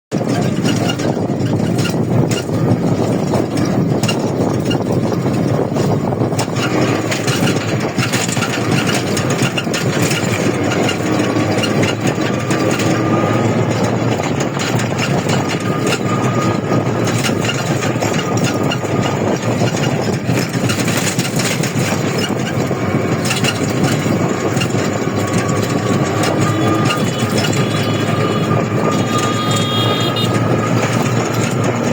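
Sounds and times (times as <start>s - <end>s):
moving vehicle running noise: 0.1s - 31.9s
small clicks and rattles: 0.1s - 31.9s.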